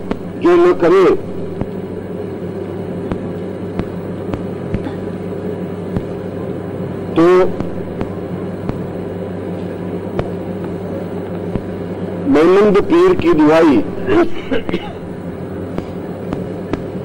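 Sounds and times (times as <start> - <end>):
low recording hum: 0.0 - 17.0.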